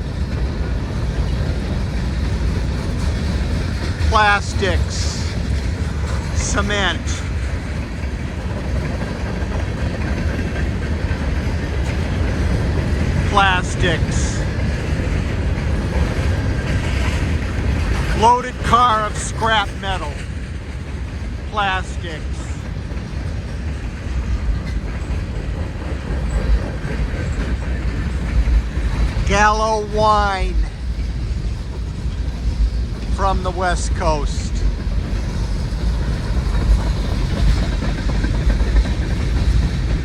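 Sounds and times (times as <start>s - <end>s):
freight train rolling past: 0.0s - 40.0s.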